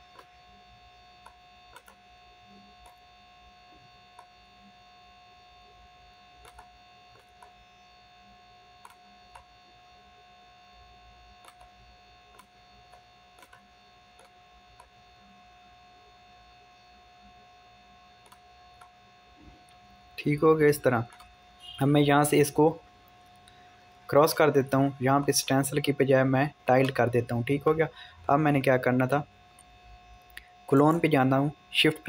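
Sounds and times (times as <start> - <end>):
faint electrical hum with whine: 0.0 - 32.0.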